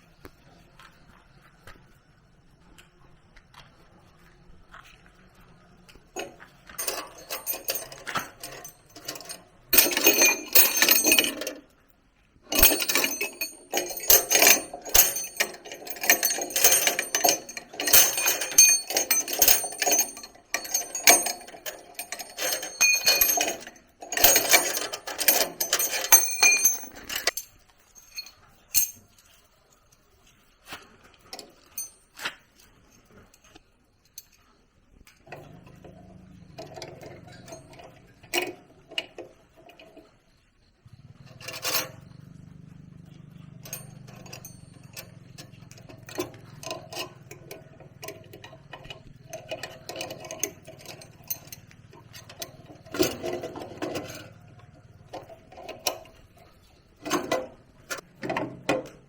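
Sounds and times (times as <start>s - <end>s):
metal tools clinking: 6.2s - 11.7s, 12.5s - 29.9s, 31.3s - 34.5s, 35.3s - 40.1s, 41.0s - 59.0s.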